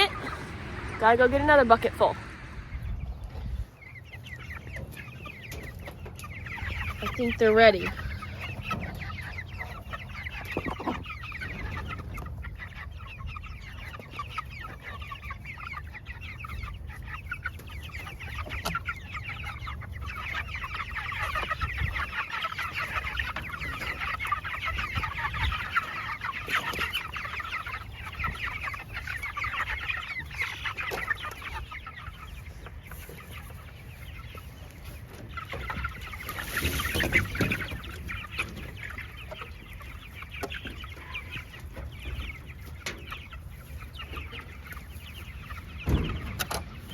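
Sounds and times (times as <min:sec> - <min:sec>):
chickens clucking and cheeping: 0:00.0 - 0:46.9.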